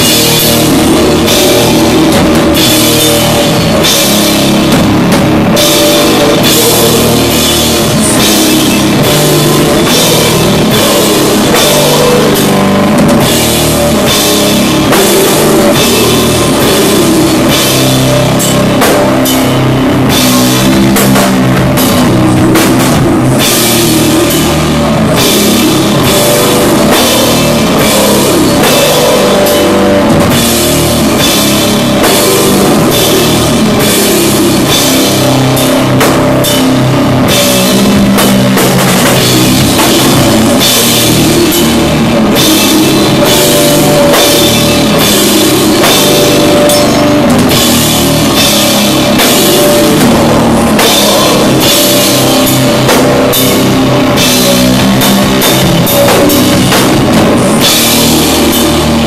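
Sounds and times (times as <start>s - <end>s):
drum kit with crashing cymbals: 0.0s - 59.0s
heavily distorted guitar riffing: 0.0s - 59.0s.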